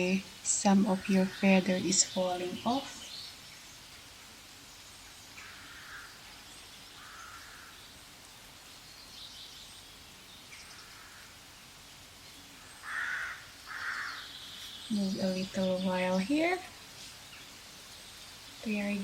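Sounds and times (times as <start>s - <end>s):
faint background noise: 0.0s - 19.0s.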